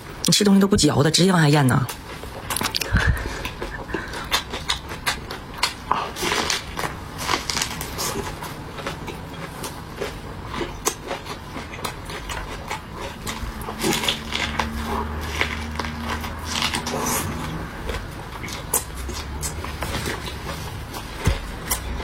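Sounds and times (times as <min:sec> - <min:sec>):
chewing and swallowing food: 0:01.9 - 0:22.0.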